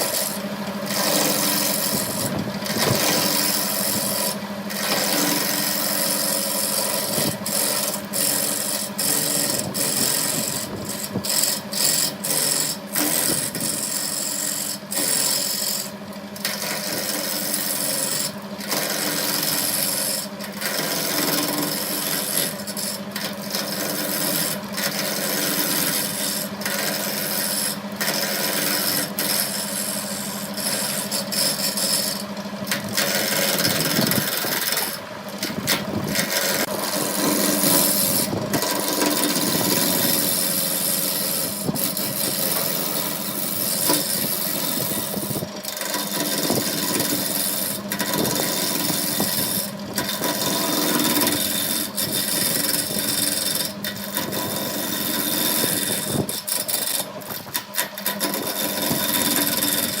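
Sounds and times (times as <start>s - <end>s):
wood being scraped on lathe: 0.0s - 60.0s
wood lathe motor hum: 0.0s - 60.0s.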